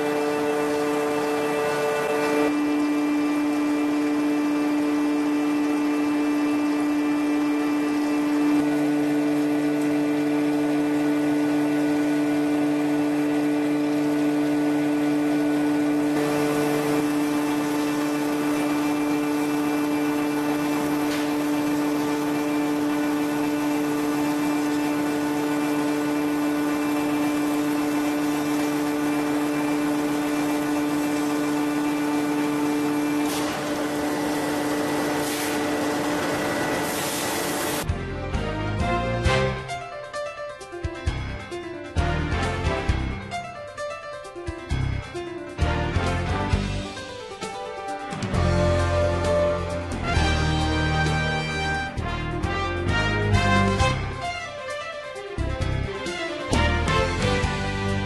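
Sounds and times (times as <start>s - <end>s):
machine electric hum: 0.0s - 39.8s, 48.2s - 58.0s.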